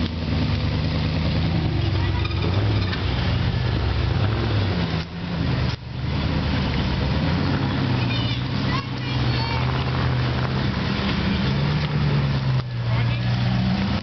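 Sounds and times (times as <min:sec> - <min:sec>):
off-road vehicle engine at low revs: 0:00.0 - 0:14.0.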